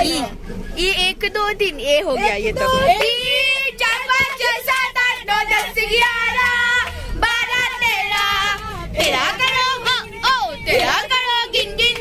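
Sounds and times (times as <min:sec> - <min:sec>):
high voice singing unaccompanied: 0:02.2 - 0:12.0.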